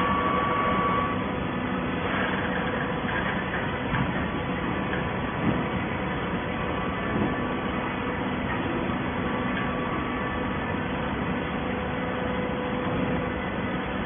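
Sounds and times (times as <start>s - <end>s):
baling machine humming: 0.0s - 14.0s.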